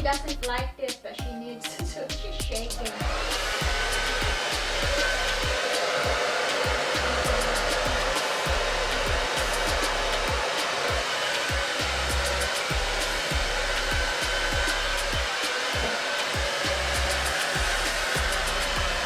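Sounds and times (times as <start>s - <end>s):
hair dryer blowing: 1.9s - 19.0s
thin whine: 2.8s - 19.0s.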